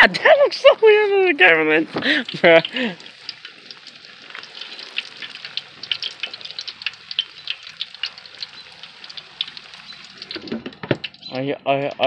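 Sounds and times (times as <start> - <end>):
fish frying with pops and crackles: 0.0 - 12.0.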